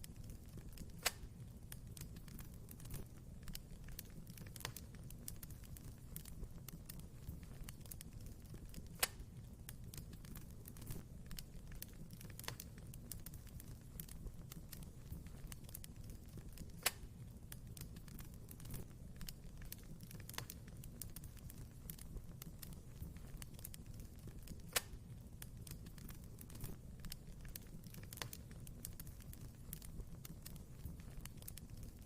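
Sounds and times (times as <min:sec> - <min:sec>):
low rumble of flames: 0:00.0 - 0:32.0
sharp fire pops: 0:00.0 - 0:32.0
wood fire crackling: 0:00.0 - 0:32.0.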